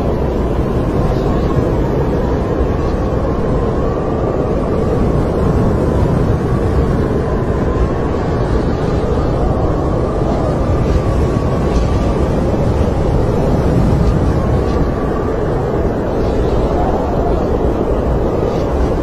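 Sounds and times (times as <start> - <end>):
howling wind whistle: 0.0 - 19.0
snowstorm wind rumble: 0.0 - 19.0.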